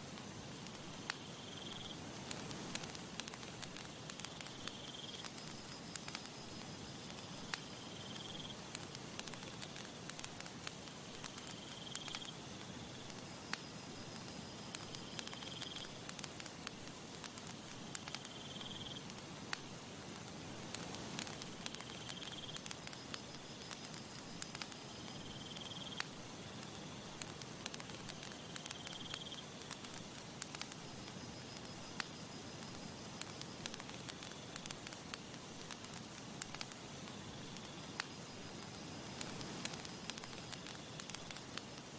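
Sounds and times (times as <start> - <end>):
campfire crackling and popping: 0.0 - 41.9
hiss of burning: 0.0 - 41.9.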